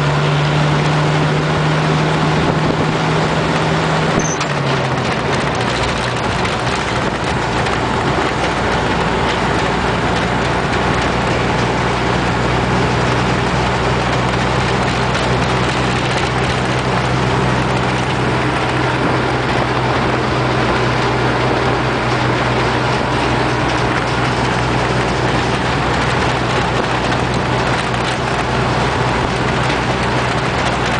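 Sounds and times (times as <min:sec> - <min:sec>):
truck engine running: 0:00.0 - 0:30.9
wind and road noise: 0:00.0 - 0:30.9.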